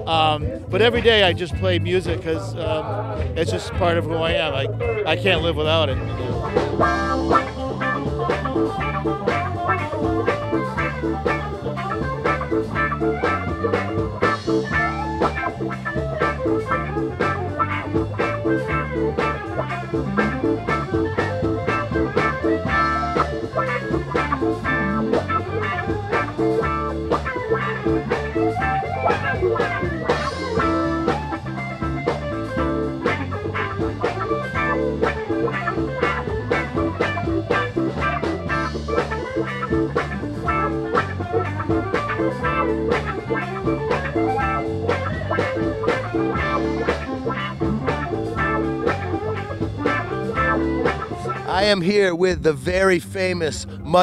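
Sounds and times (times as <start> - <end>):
bass line: 0.0 - 54.0
blues guitar: 0.0 - 54.0
drums keeping a steady beat: 0.0 - 54.0.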